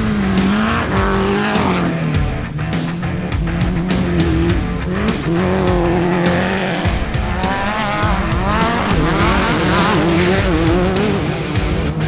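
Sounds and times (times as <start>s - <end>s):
background music: 0.0s - 12.0s
buggy engine revving hard: 0.0s - 12.0s.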